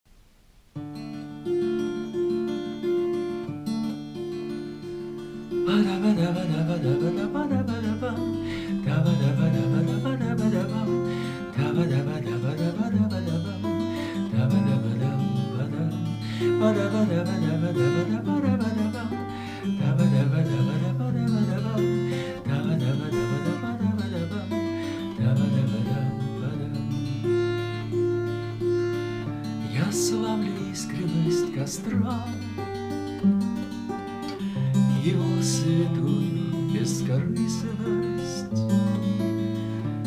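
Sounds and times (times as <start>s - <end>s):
acoustic guitar playing: 0.1s - 40.0s.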